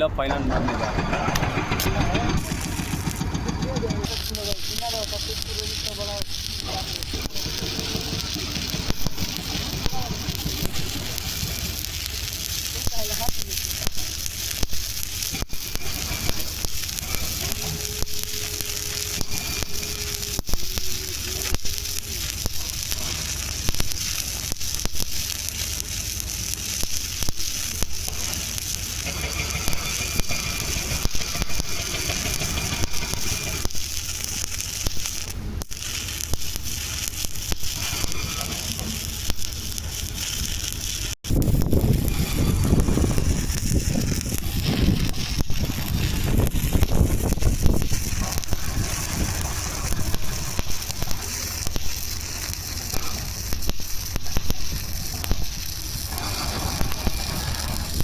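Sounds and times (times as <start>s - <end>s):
welding arc crackling and sizzling: 0.0s - 58.0s.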